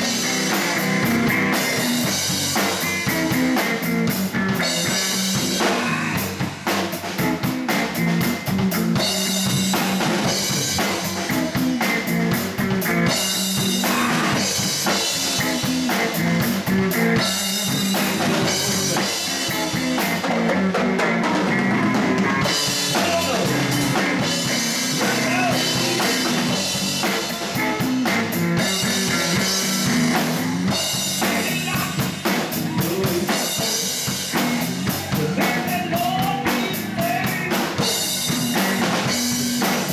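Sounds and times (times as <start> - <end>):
drum kit beats: 0.0 - 39.9
electric bass: 0.0 - 39.9
electric guitar: 0.0 - 39.9.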